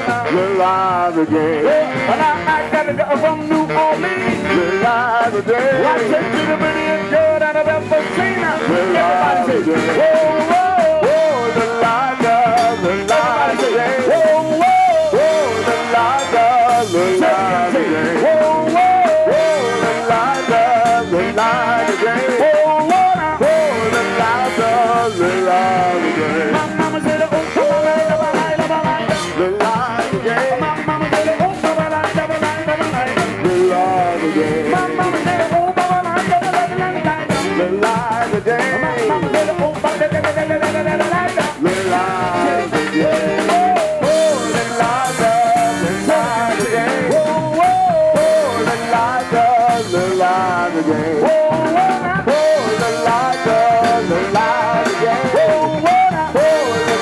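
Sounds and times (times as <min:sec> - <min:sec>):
brass band playing: 0:00.0 - 0:57.0
drums: 0:00.0 - 0:57.0
horn melody with sliding notes: 0:00.0 - 0:57.0
sousaphone: 0:00.0 - 0:57.0.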